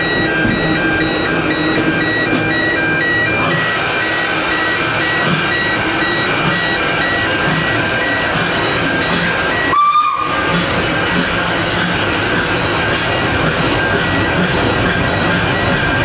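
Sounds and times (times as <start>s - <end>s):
steady high tone: 0.0s - 16.0s
train running noise: 0.0s - 16.0s.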